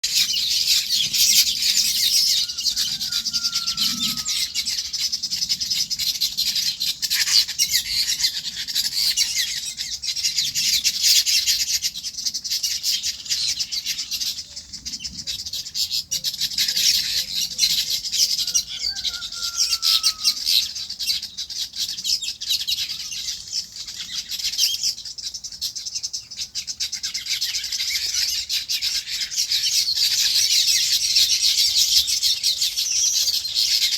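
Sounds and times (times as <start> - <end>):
birds chirping chorus: 0.0 - 33.9.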